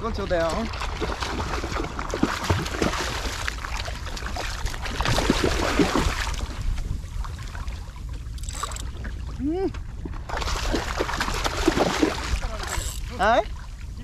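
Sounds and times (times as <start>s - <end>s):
wind on microphone: 0.0s - 14.0s
fish splashing in water: 0.5s - 9.2s, 10.0s - 13.8s.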